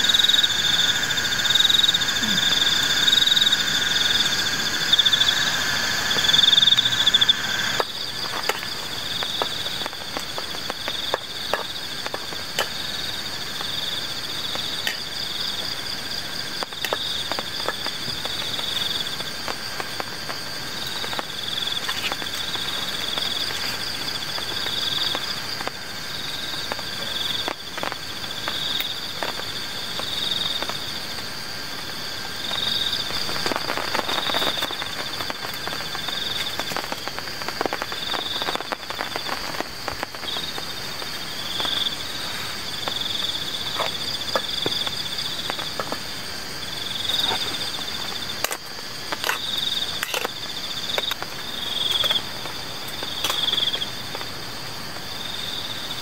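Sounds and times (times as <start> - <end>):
insects and frogs chorus: 0.0 - 56.0.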